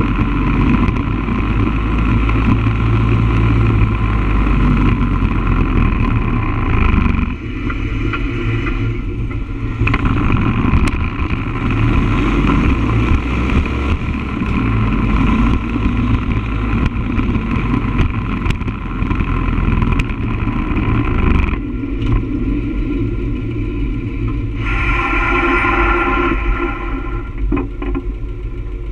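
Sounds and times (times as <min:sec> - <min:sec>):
motorcycle engine running: 0:00.0 - 0:24.6, 0:26.4 - 0:28.9
road and wind noise: 0:00.0 - 0:28.9.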